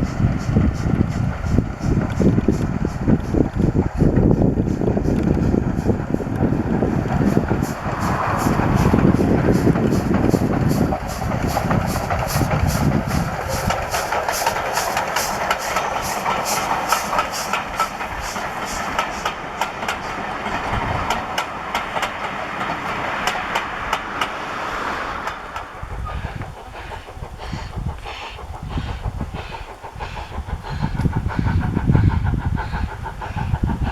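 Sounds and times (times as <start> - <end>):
steam train passing: 0.0 - 33.9
train wheel clicks: 0.0 - 33.9.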